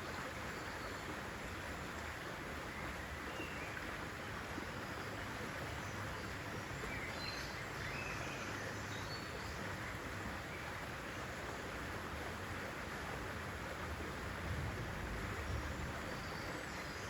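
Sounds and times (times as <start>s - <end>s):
rushing nature ambience: 0.0s - 17.0s.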